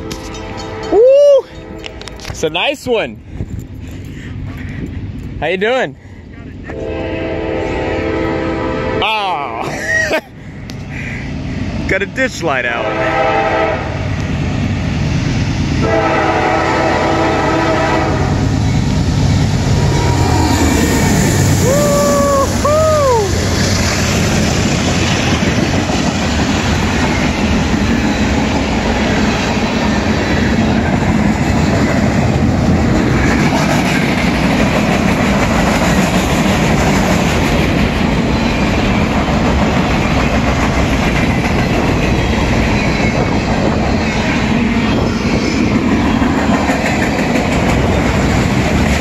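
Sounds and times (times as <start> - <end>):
freight train wheels on rails: 0.0 - 49.0.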